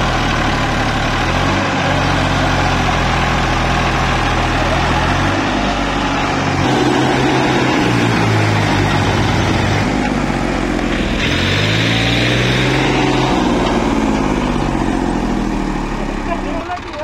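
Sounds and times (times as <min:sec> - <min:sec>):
tractor engine revving hard: 0:00.0 - 0:17.0.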